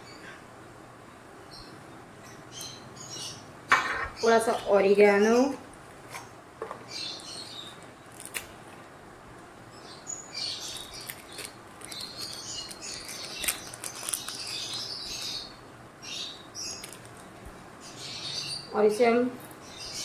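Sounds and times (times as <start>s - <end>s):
small birds chirping: 0.0s - 5.6s, 6.2s - 8.4s, 9.6s - 20.0s.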